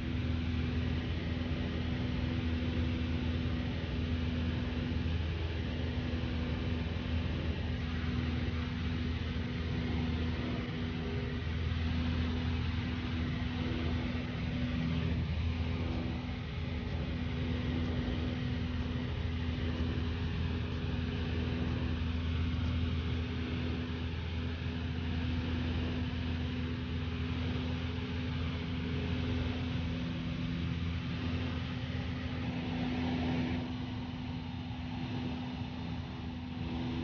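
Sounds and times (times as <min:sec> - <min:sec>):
propeller aircraft cabin drone: 0:00.0 - 0:37.0.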